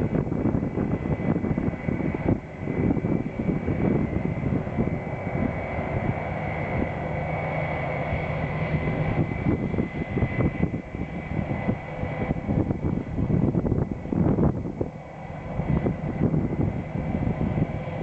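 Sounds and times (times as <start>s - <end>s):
airliner engines running: 0.0s - 18.0s
wind buffeting microphone: 0.0s - 18.0s.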